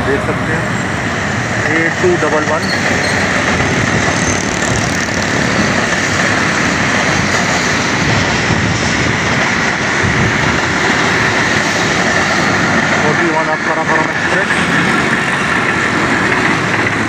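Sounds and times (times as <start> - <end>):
passenger train rolling past: 0.0 - 17.0.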